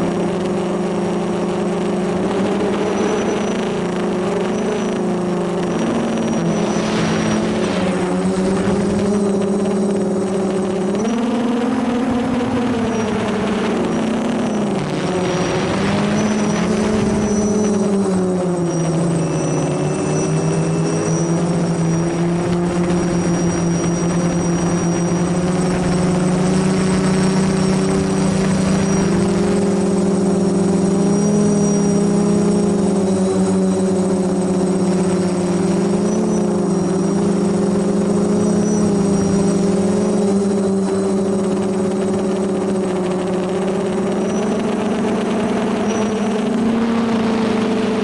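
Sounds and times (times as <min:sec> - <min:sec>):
drone motors buzzing: 0:00.0 - 0:48.0.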